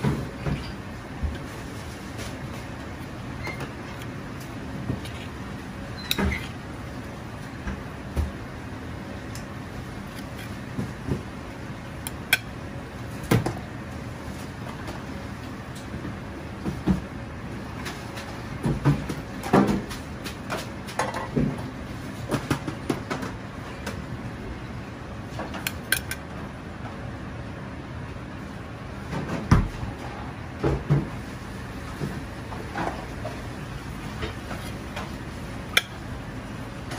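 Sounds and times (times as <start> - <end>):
steady background noise: 0.0 - 36.9.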